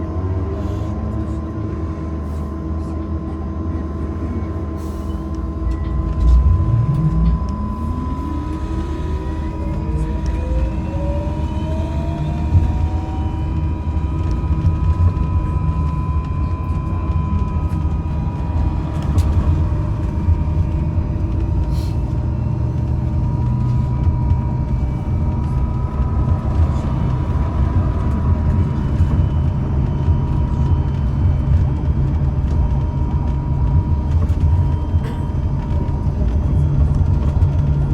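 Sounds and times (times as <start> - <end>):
electric traction drive whine: 0.0 - 37.9
road and body rumble: 0.0 - 37.9.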